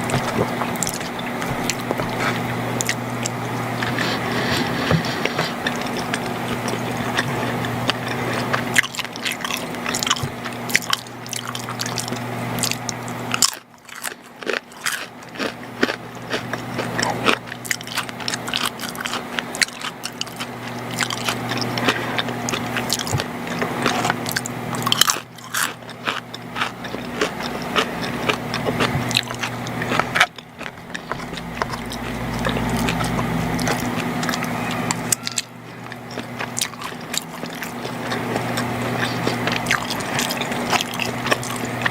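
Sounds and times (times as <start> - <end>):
chewing and biting food: 0.0 - 41.9
steady low hum: 0.0 - 41.9.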